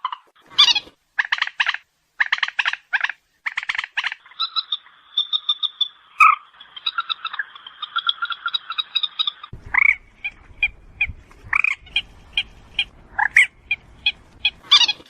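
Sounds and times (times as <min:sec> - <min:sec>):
moorhen calls: 0:00.0 - 0:15.0.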